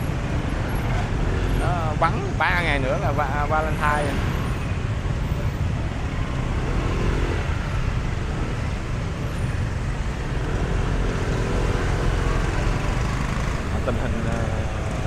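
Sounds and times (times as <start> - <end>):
motorbike and car traffic: 0.0 - 15.0.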